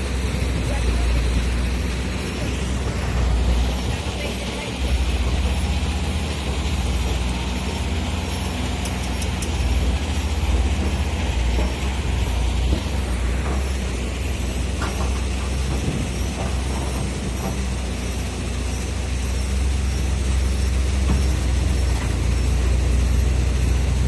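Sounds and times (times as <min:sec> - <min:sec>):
heavy diesel engines rumbling: 0:00.0 - 0:24.0.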